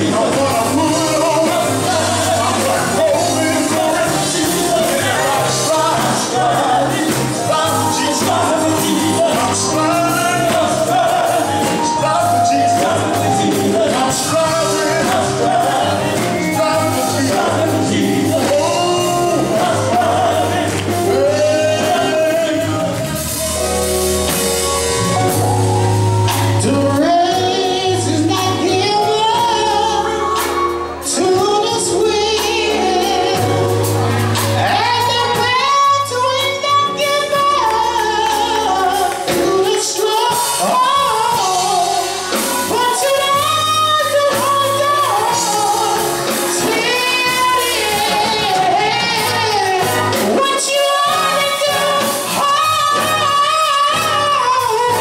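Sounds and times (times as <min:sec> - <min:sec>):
bass line: 0:00.0 - 0:55.0
electric guitars: 0:00.0 - 0:55.0
keyboard: 0:00.0 - 0:55.0
person singing into microphone: 0:00.0 - 0:55.0.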